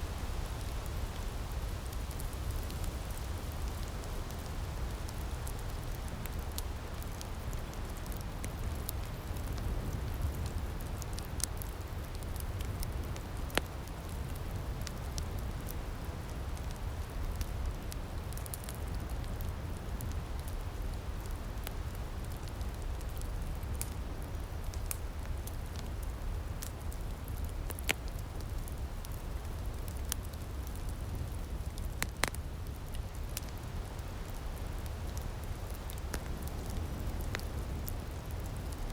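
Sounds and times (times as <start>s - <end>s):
firepit crackling and popping: 0.0s - 38.9s.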